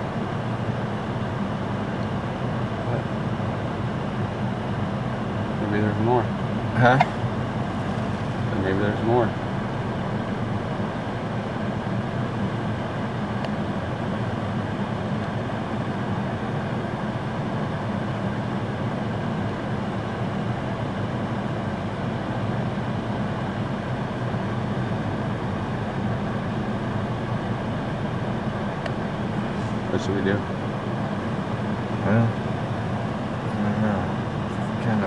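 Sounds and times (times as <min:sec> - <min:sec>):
vehicle engine and road hum: 0:00.0 - 0:35.0.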